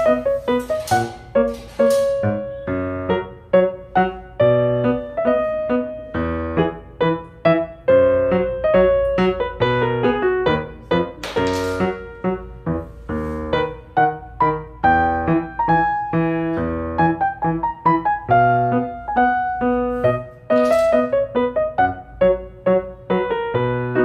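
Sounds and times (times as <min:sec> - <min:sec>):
light piano melody: 0:00.0 - 0:24.0.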